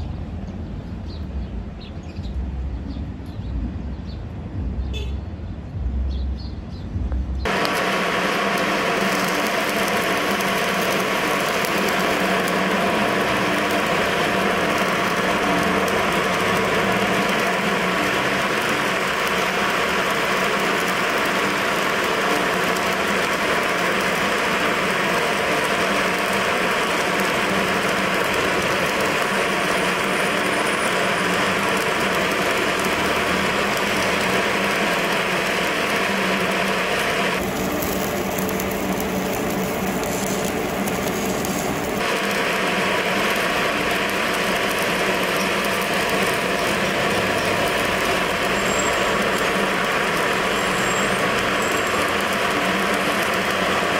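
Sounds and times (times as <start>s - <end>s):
welding arc crackling and hissing: 6.8s - 53.9s.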